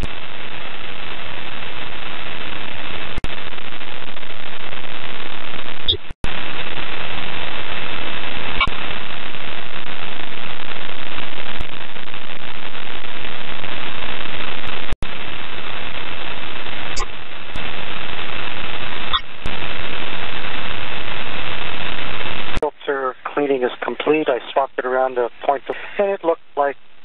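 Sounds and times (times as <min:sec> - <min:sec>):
radio channel hiss: 0:00.0 - 0:27.0.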